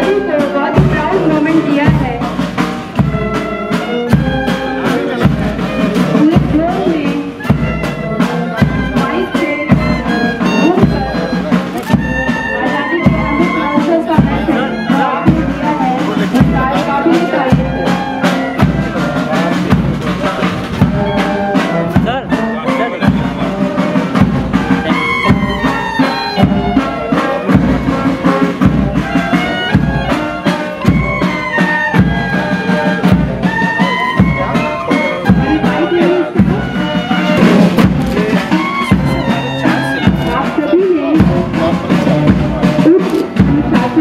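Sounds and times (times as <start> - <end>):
steady drum beat: 0.0 - 44.0
wind instruments playing melody: 0.0 - 44.0.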